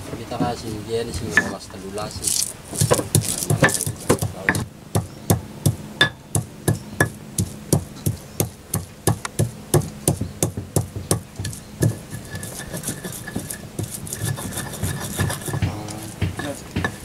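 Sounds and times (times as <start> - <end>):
pestle pounding in stone mortar: 2.2 - 17.0.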